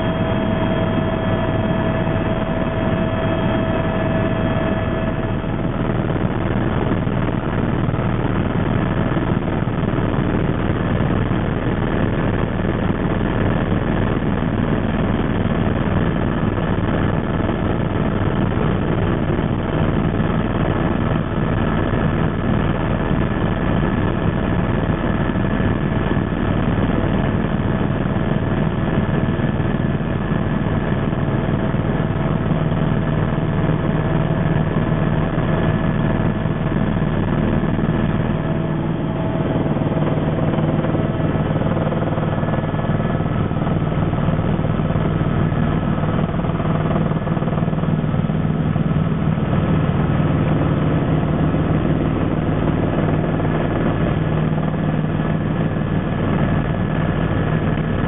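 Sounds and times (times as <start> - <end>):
helicopter rotor and engine drone: 0.0 - 58.0
steady whining tones: 0.0 - 58.0.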